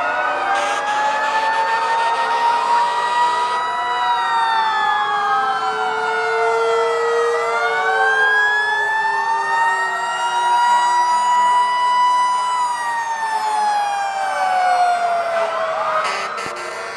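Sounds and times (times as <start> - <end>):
fire engine sirens wailing: 0.0 - 16.9.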